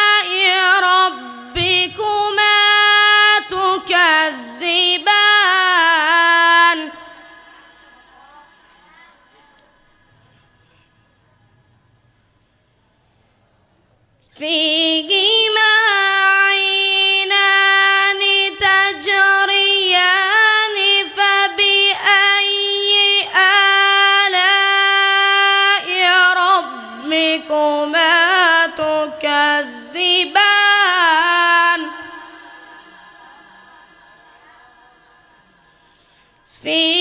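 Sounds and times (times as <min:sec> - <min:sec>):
boy reciting melodically: 0:00.0 - 0:11.3, 0:14.2 - 0:37.0.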